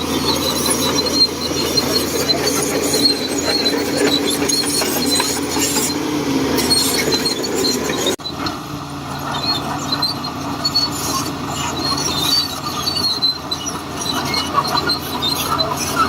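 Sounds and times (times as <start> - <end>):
bulldozer engine droning: 0.0 - 16.0
steel tracks squealing and clanking: 0.0 - 16.0.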